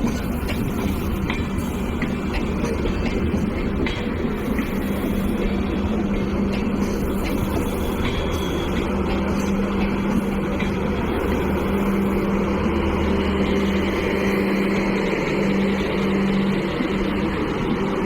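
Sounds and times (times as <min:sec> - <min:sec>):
electric locomotive low hum: 0:00.0 - 0:18.0
train rumbling: 0:00.0 - 0:18.0.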